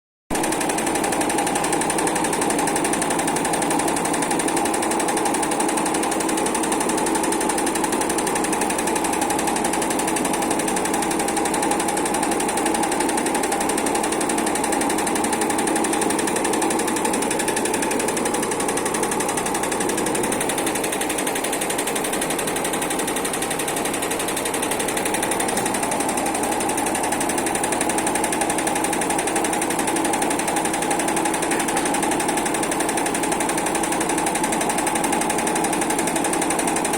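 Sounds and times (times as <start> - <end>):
sewing machine needle clatter: 0.4 - 36.9.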